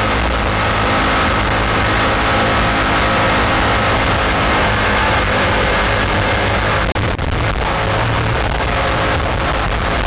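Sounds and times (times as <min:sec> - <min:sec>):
jet boat engine running: 0:00.0 - 0:10.0.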